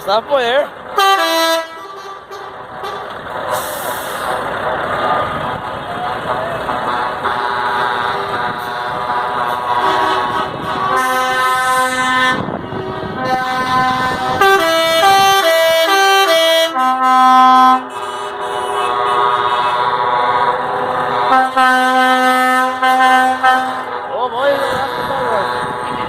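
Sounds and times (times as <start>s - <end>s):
truck air horns blasting: 0.9s - 4.4s, 6.1s - 26.0s.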